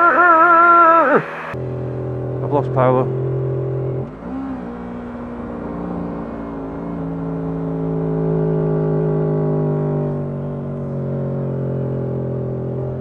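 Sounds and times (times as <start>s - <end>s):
motorcycle engine running: 1.5s - 13.0s.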